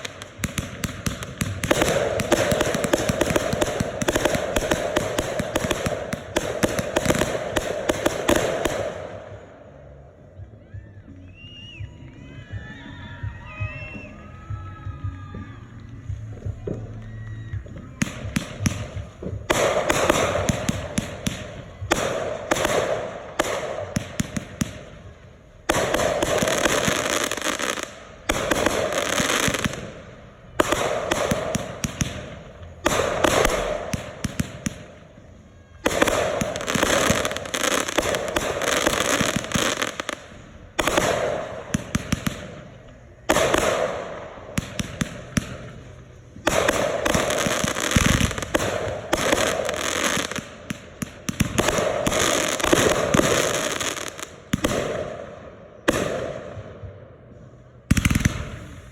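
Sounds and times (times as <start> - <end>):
fireworks crackling and popping: 0.0 - 10.5, 11.2 - 56.7, 57.4 - 58.9.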